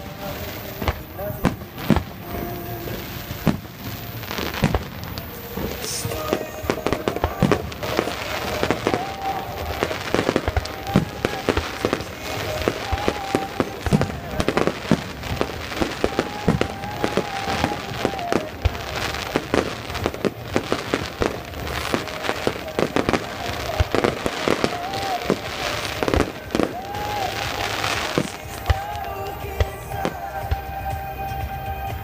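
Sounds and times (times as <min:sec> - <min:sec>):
fireworks bangs and crackles: 0:00.0 - 0:32.0
music with sung melody: 0:00.0 - 0:32.0.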